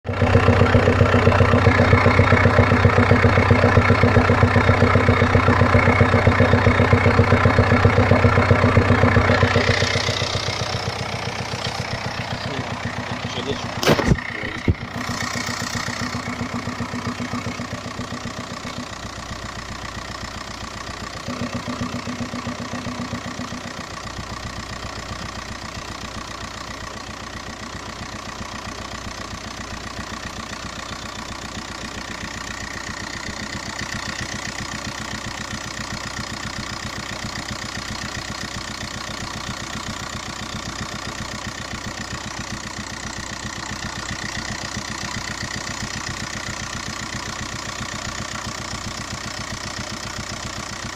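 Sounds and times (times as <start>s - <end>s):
diesel engine idling with knock: 0.1s - 50.9s.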